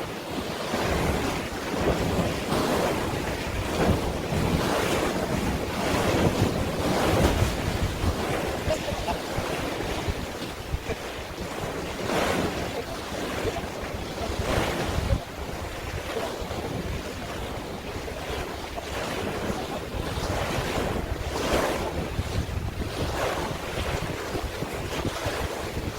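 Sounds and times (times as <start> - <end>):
sea waves breaking: 0.0 - 25.9
wind buffeting microphone: 0.0 - 25.9.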